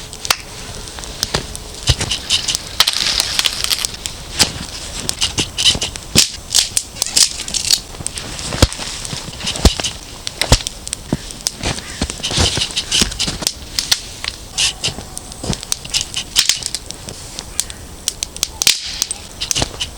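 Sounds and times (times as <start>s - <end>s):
campfire crackling and popping: 0.0s - 19.9s
hissing bursts: 0.0s - 19.9s.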